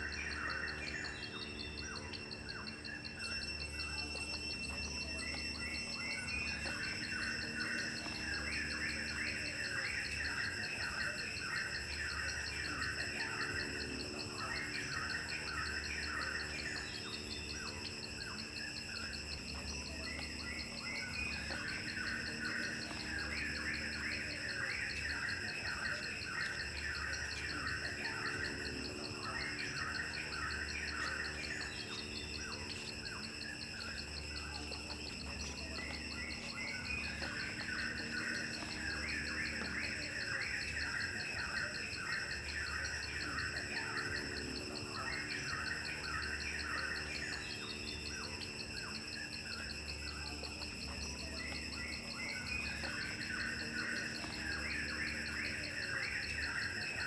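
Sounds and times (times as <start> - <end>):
birds chirping: 0.0 - 57.0
insects trilling: 0.0 - 57.0.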